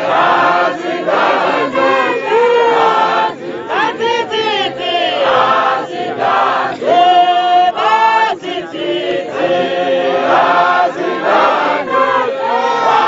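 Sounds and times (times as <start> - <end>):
congregation singing a hymn: 0.0 - 13.0.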